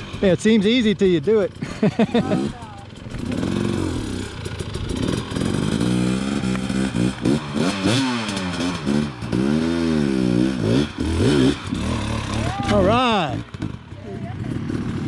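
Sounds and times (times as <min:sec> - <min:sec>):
dirt bike engine revving: 0:01.5 - 0:15.0.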